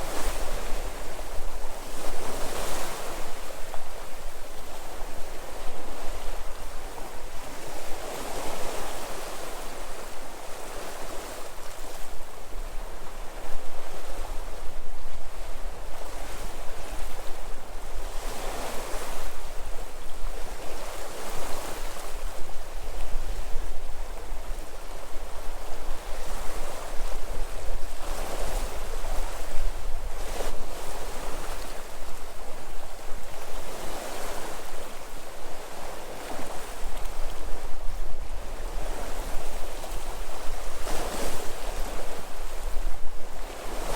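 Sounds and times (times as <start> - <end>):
sea waves washing ashore: 0.0 - 43.9
wind rumble on microphone: 0.0 - 43.9.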